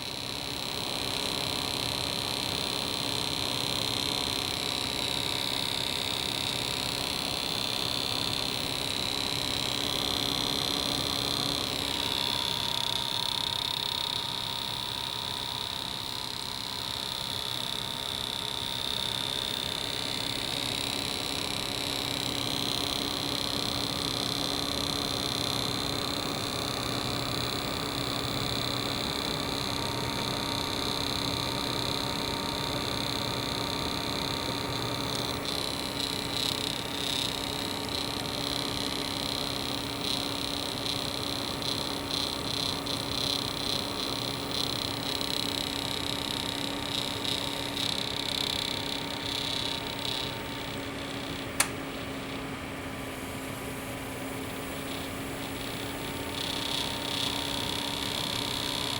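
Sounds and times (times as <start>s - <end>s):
high-pitched electrical whine: 0.0s - 58.9s.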